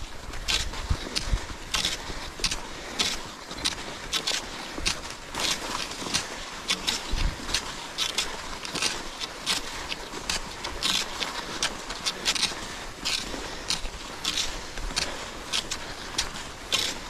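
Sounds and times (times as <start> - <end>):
ski scrapes and pole plants: 0.0 - 17.0
skis gliding on snow: 0.0 - 17.0.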